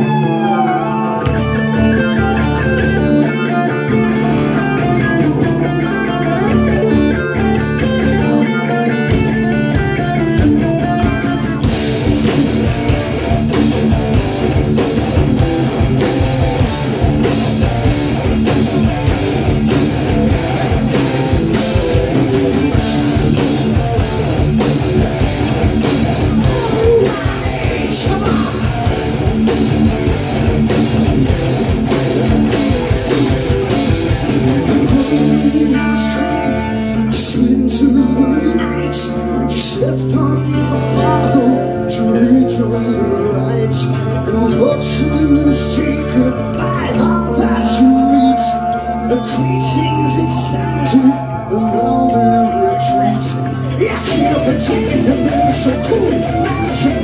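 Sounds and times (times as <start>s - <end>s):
heavy metal band playing live: 0.0s - 57.0s
picked electric guitar: 0.0s - 57.0s.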